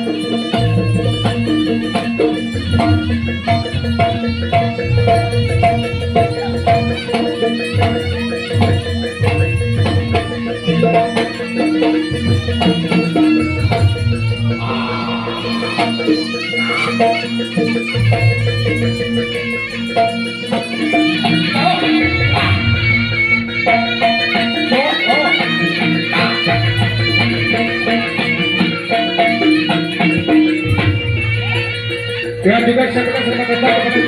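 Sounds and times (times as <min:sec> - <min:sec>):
live band music: 0:00.0 - 0:34.0.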